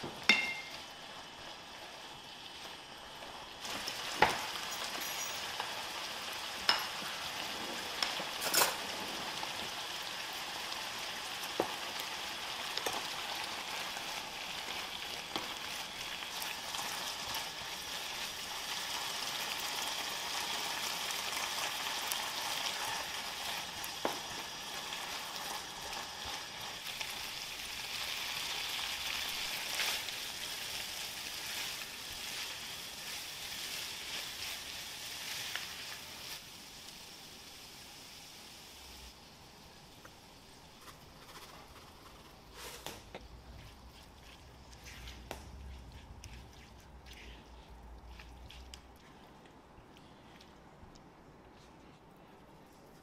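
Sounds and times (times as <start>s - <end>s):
food sizzling in frying pan: 0.0s - 45.1s.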